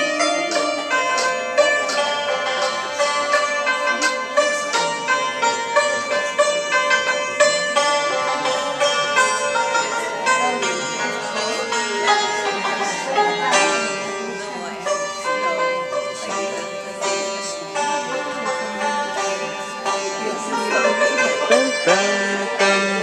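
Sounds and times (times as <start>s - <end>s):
hammered dulcimer playing: 0.0s - 23.0s.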